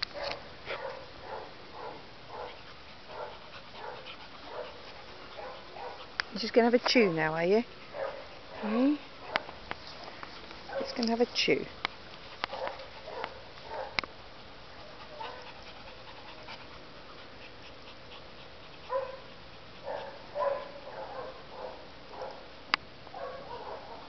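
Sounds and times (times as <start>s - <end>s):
dog panting: 0.7s - 21.8s.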